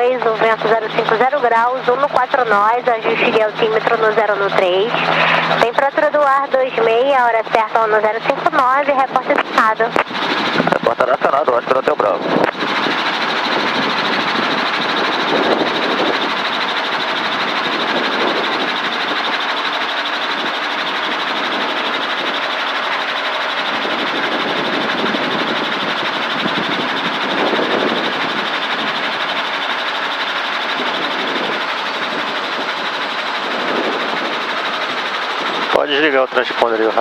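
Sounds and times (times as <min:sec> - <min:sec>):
helicopter engine and rotor: 0:00.0 - 0:37.0.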